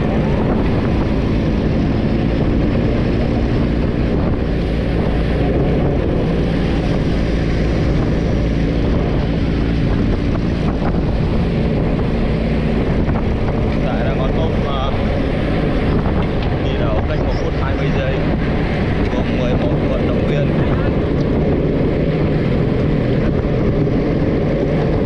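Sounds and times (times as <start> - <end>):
vehicle engine drone: 0.0 - 25.0
wind rushing over microphone: 0.0 - 25.0.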